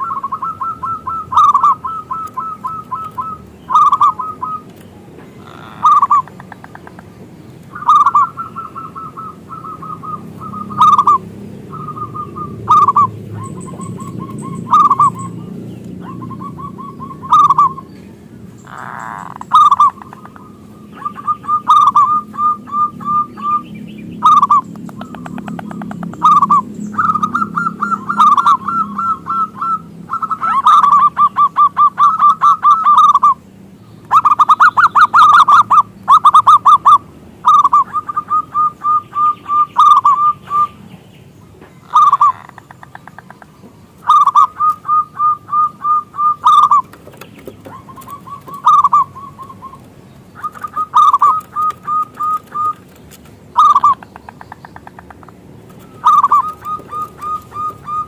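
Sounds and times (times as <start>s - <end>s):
dove cooing: 0.0s - 7.1s, 7.7s - 33.4s, 34.1s - 40.8s, 41.8s - 58.0s.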